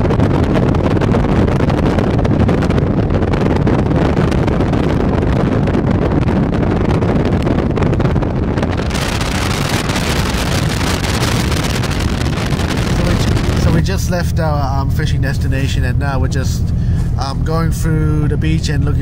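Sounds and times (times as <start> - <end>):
vehicle driving on sand: 0.0 - 19.0
wind buffeting microphone: 0.0 - 19.0.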